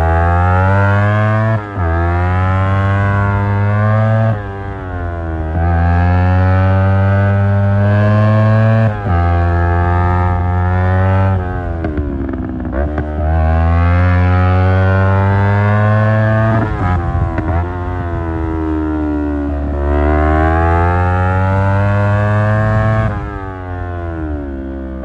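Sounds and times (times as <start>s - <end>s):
motorcycle engine revving high: 0.0s - 25.0s.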